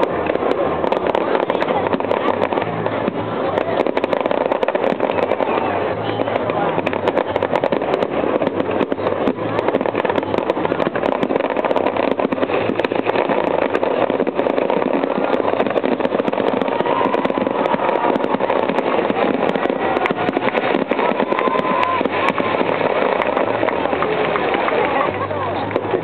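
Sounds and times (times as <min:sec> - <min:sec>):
fireworks cracks and crackling: 0:00.0 - 0:26.0.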